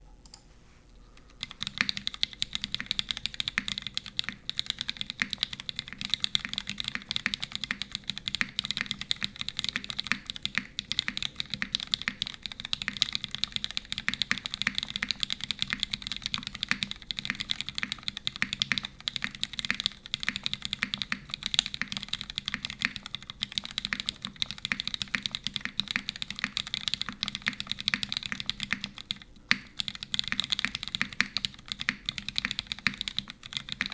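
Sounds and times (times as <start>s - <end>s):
fast mechanical keyboard typing: 1.2s - 33.9s.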